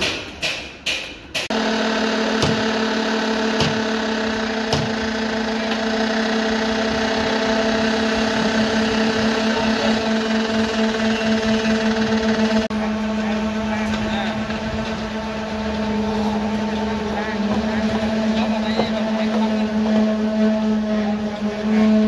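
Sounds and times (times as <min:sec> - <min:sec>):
machine motor humming: 0:01.5 - 0:22.0.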